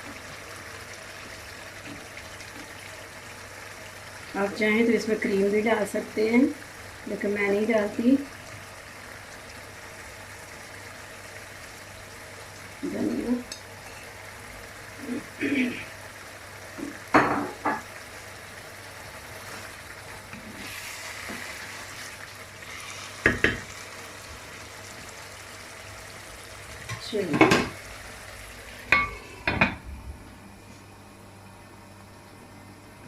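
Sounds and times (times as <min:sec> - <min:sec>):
sauce simmering: 0:00.0 - 0:27.0, 0:27.7 - 0:33.0.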